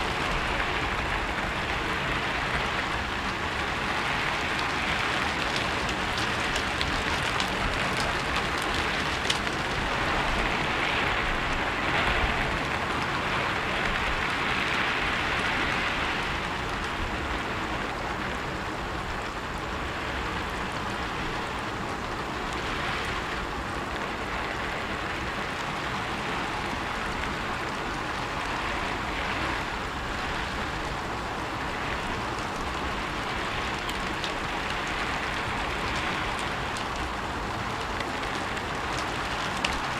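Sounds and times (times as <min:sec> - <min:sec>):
rain on a rooftop: 0:00.0 - 0:39.9.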